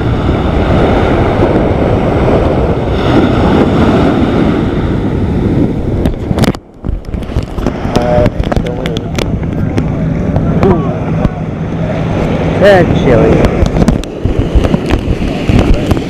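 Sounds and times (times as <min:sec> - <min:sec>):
surf breaking: 0:00.0 - 0:16.0
wind buffeting microphone: 0:00.0 - 0:16.0.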